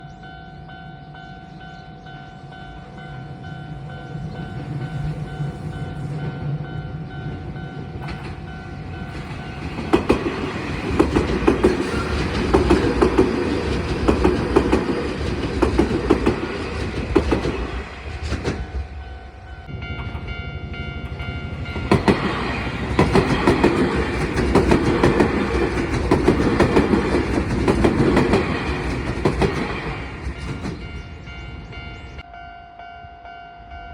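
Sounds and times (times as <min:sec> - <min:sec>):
level crossing warning bell: 0:00.0 - 0:16.6, 0:18.2 - 0:25.7, 0:28.1 - 0:33.9
rhythmic train wheel clatter: 0:00.0 - 0:32.3
electric train passing: 0:00.0 - 0:33.9.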